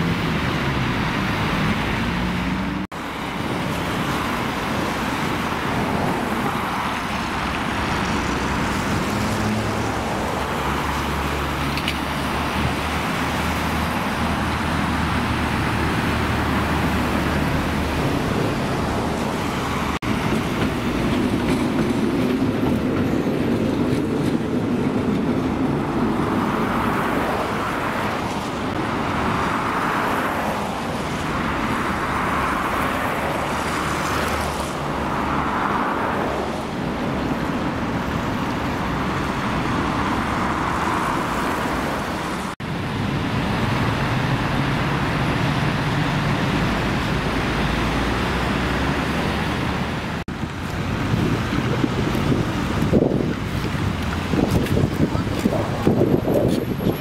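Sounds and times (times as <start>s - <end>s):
road traffic: 0.0s - 57.0s
tram rumbling past: 0.0s - 57.0s.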